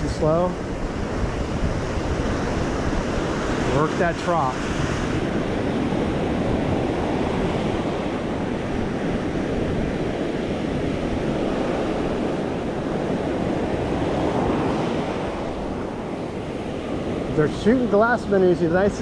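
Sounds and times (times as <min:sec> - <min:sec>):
ocean surf washing onto beach: 0:00.0 - 0:19.0
wind on microphone: 0:00.0 - 0:19.0.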